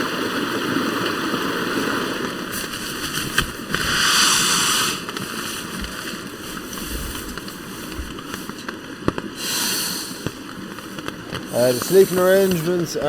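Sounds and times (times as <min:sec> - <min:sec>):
rain on a tent: 0:00.0 - 0:13.0
rustling: 0:02.3 - 0:13.0.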